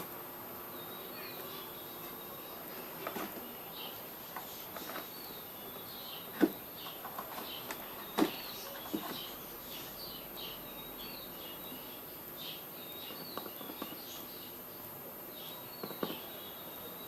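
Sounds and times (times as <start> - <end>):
faint bird chirping: 0.0 - 17.0
steady hiss: 0.0 - 17.0.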